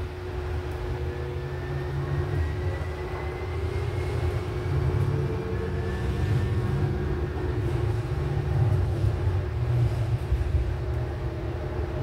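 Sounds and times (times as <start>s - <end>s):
train car rumble: 0.0s - 12.0s.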